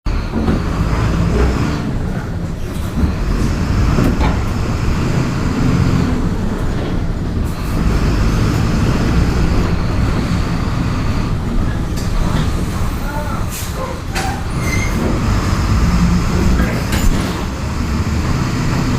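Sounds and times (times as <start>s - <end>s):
bus diesel engine revving: 0.1s - 18.9s.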